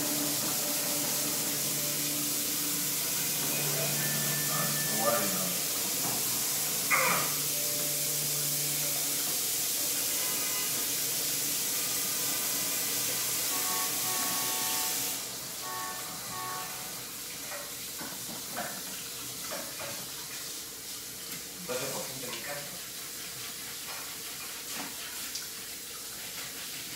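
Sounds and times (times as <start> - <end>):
kitchen tap running: 0.0 - 26.9.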